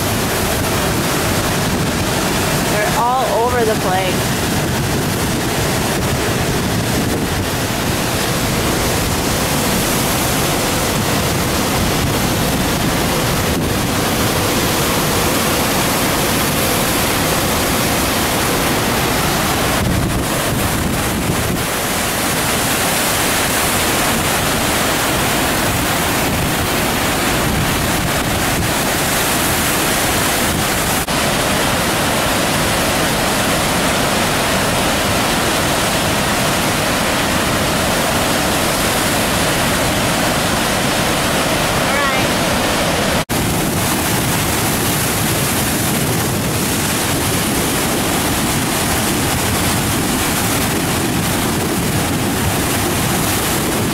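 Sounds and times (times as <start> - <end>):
floodwater rushing through spillway: 0.0 - 53.9.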